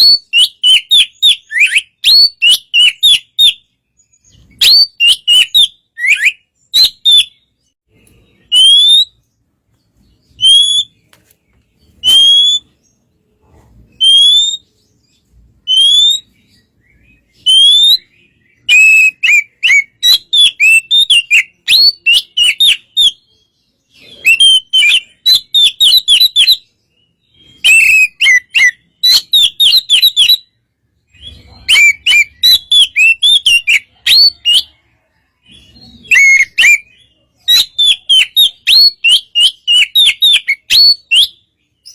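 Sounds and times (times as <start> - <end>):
bird singing whistles and chirps: 0.0 - 11.1, 11.8 - 41.9.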